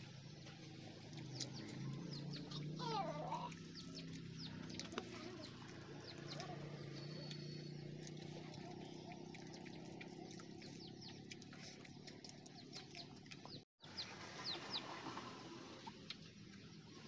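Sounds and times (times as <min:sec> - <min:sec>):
faint bird chirping: 0:01.1 - 0:15.0.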